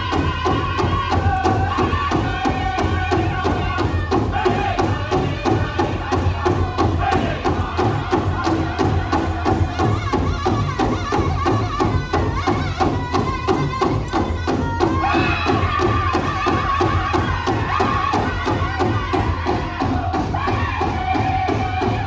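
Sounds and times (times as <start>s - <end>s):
drum group singing: 0.0s - 22.0s
large bass drum beat: 0.0s - 22.0s.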